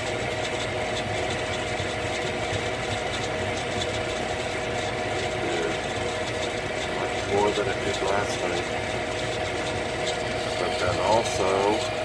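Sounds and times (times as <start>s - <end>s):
gas furnace running: 0.0s - 12.0s.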